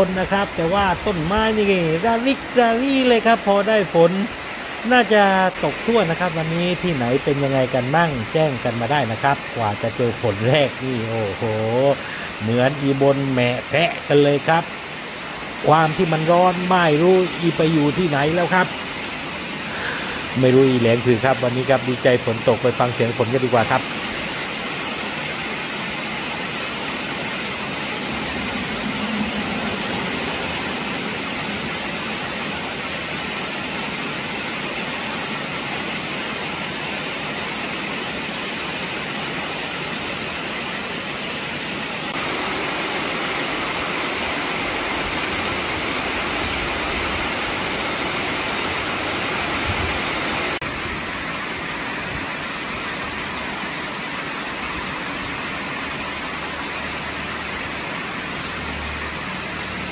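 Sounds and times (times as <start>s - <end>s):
heavy rain on leaves: 0.0s - 59.9s
rainwater pouring from pipe: 0.0s - 59.9s.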